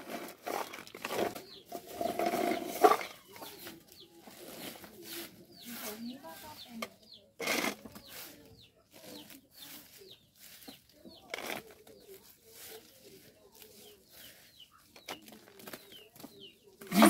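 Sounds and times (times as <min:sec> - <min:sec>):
birds clucking and chirping: 0:00.0 - 0:17.0.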